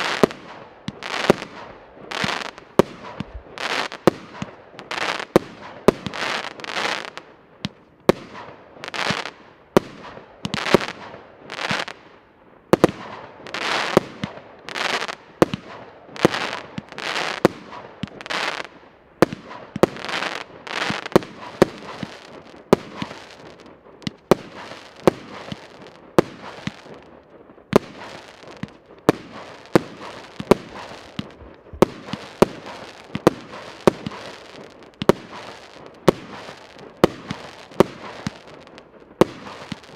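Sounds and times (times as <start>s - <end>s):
fireworks reports with hiss: 0.0s - 39.9s.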